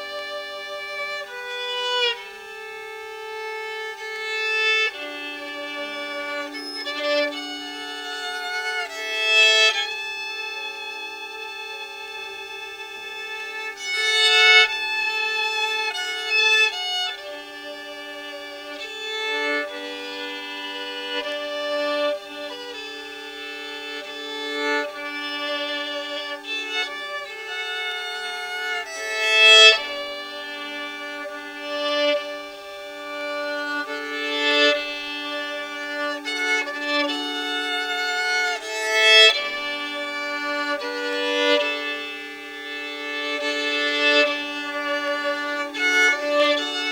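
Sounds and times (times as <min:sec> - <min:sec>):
violin playing slow melody: 0:00.0 - 0:46.9.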